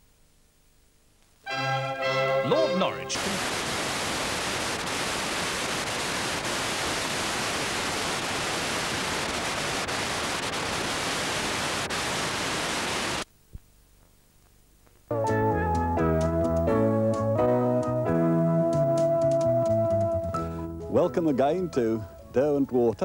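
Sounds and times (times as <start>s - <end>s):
tape static hiss: 0.0s - 23.0s.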